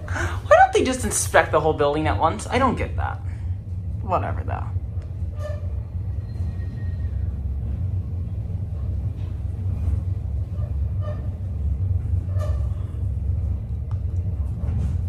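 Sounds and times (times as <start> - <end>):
elevator ride rumble: 0.0 - 15.0.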